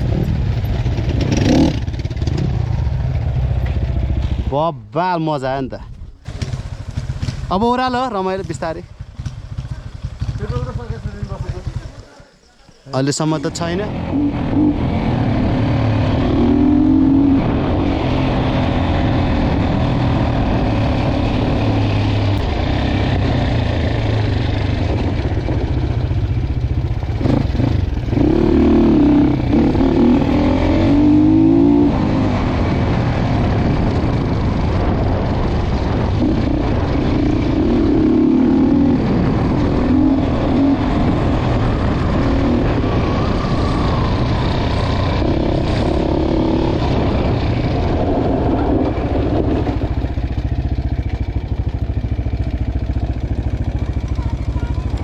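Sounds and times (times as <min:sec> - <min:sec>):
dirt bike engine revving: 0:00.0 - 0:04.4, 0:06.3 - 0:12.2, 0:13.3 - 0:55.0.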